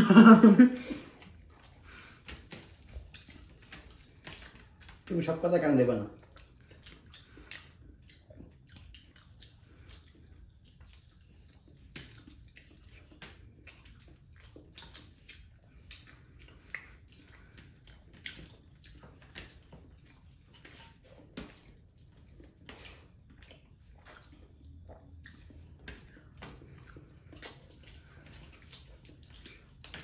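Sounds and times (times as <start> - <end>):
hands squishing rice: 0.0 - 30.0
chewing and lip smacks: 0.8 - 30.0.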